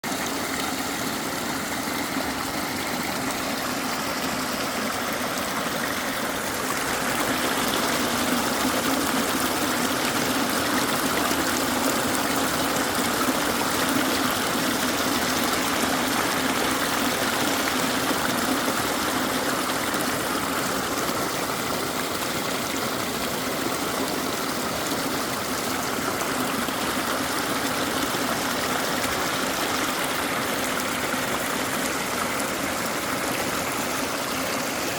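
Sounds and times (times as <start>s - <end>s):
stream water flowing: 0.0s - 34.9s.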